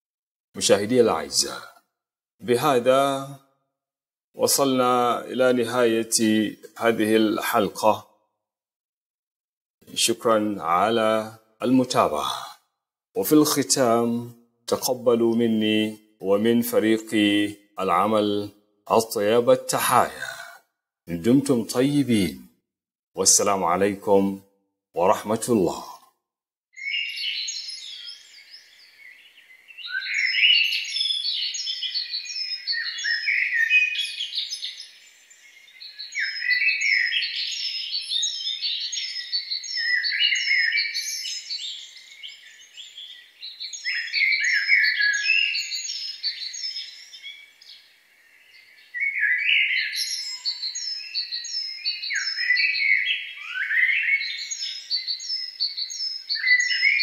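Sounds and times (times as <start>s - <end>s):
small birds chirping and twittering: 0.6s - 3.5s, 4.4s - 8.2s, 9.8s - 22.6s, 23.2s - 24.4s, 25.0s - 26.1s, 26.7s - 57.0s.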